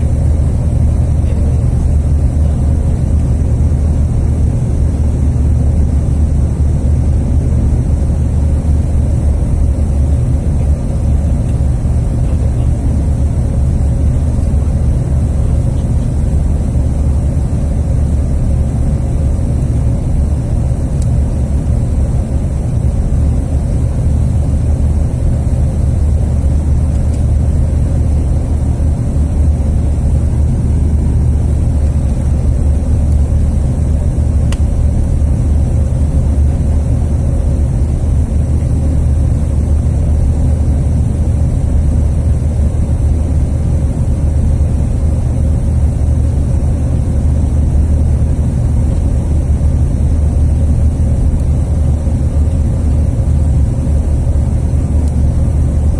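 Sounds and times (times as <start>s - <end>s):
faint steady hum: 0.0s - 55.9s
jet engine drone in cabin: 0.0s - 55.9s.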